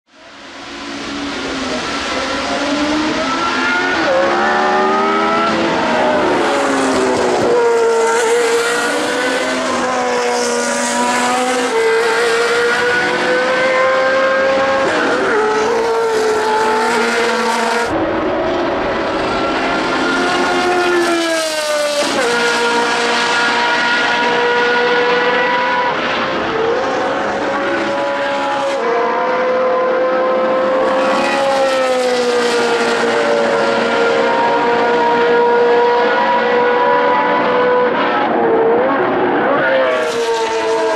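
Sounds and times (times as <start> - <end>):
racing car engine revving: 0.9 - 40.9.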